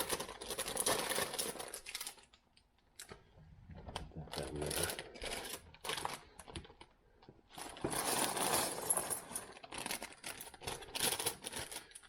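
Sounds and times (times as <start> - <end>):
plastic bags crinkling: 0.0 - 2.4, 3.9 - 12.0.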